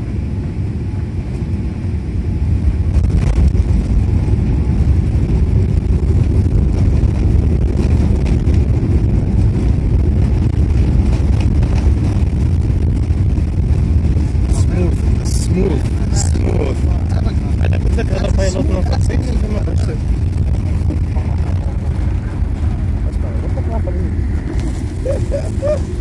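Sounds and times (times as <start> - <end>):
jet engines rumbling: 0.0 - 26.0
landing gear rumbling on runway: 0.0 - 26.0.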